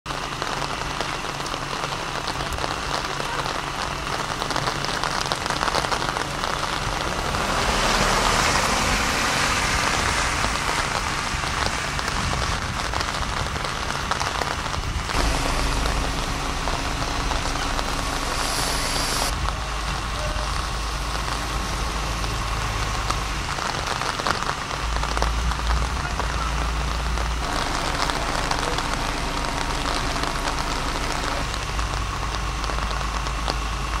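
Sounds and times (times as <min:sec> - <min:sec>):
steady rain falling: 0:00.1 - 0:34.0
low rumble: 0:03.7 - 0:34.0.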